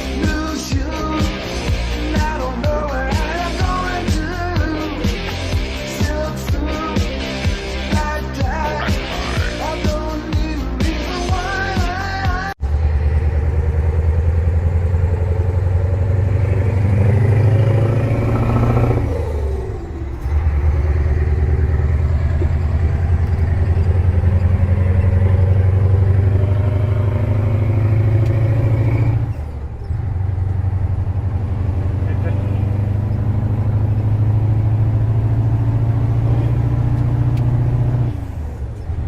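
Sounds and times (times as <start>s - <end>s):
diesel engine pulsing drone: 0.0s - 11.5s, 12.6s - 39.0s.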